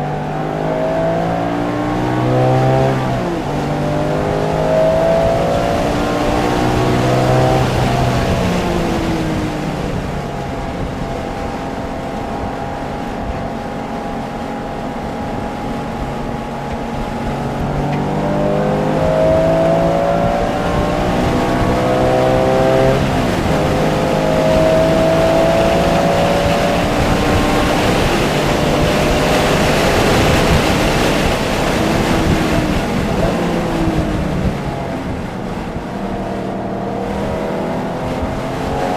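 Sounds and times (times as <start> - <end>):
sports car engine revving: 0.0 - 38.9
tyre and wind noise: 0.0 - 38.9.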